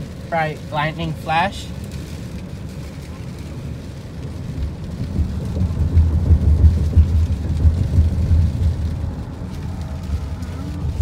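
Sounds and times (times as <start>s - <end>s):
car driving on wet road: 0.0s - 11.0s
rain: 0.0s - 11.0s.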